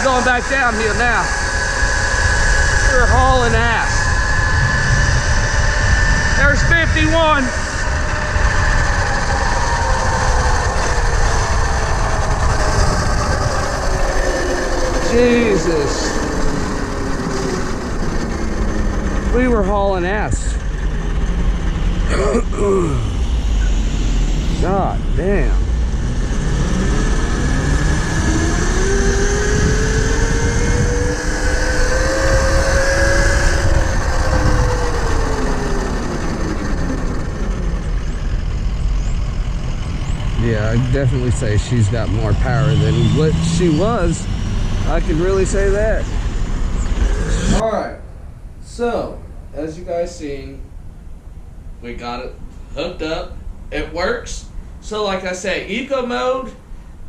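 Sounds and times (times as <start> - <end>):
wind rushing: 0.0 - 22.1, 22.9 - 52.1
electric motor whine: 0.0 - 47.6.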